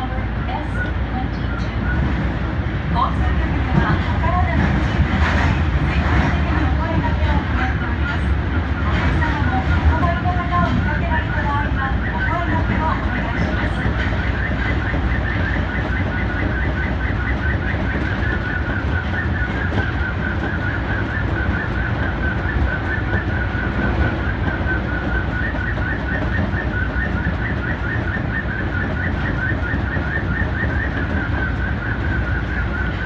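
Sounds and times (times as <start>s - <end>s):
train rumbling in tunnel: 0.0s - 33.0s.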